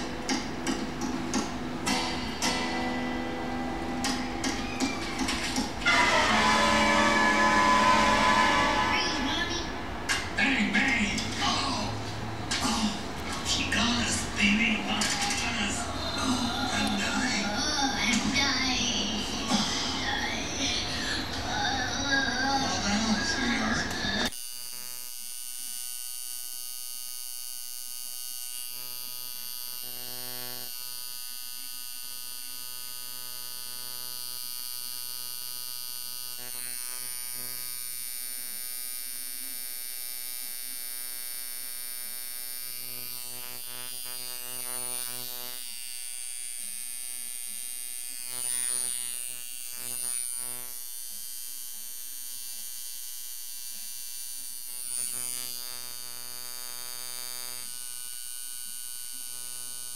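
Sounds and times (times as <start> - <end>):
tattoo machine buzzing: 0.0 - 9.5, 15.0 - 20.7, 21.5 - 59.9.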